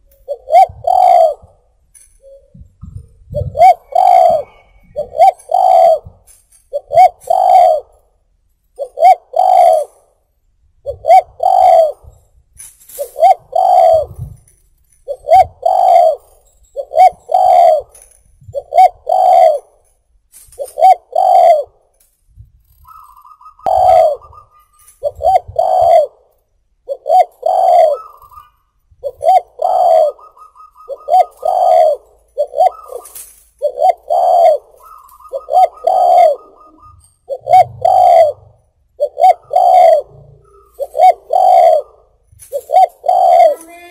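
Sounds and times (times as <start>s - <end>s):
dove cooing: 0.0s - 8.2s, 8.8s - 10.2s, 10.8s - 12.2s, 13.0s - 14.4s, 15.1s - 19.8s, 20.6s - 21.8s, 22.9s - 26.2s, 26.8s - 43.9s.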